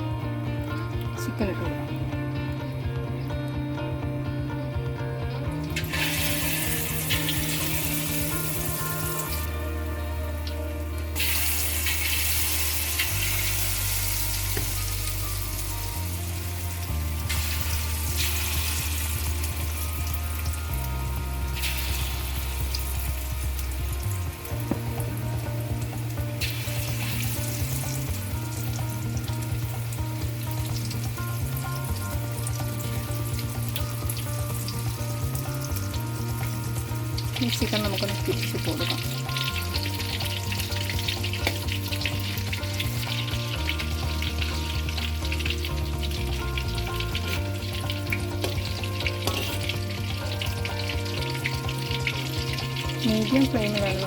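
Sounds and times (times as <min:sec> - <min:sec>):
chicken deep-frying in hot oil: 0:05.4 - 0:54.0.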